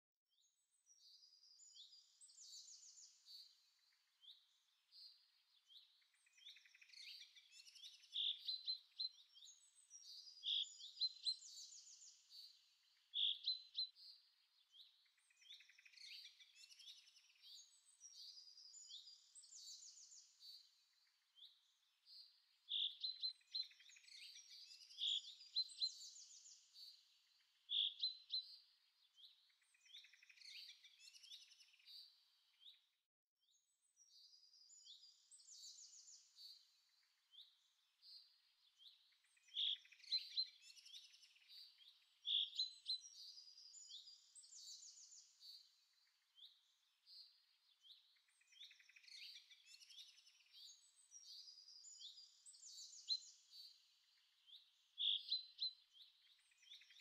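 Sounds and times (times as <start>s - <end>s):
birds chirping and trilling: 0.8s - 32.9s, 33.6s - 57.0s.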